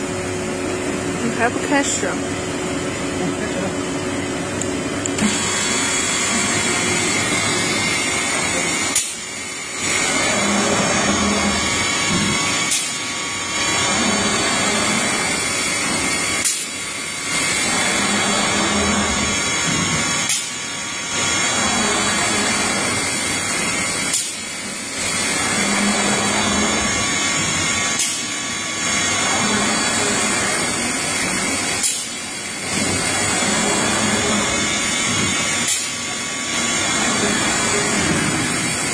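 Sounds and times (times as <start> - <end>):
cnc router machining: 0.0 - 38.9.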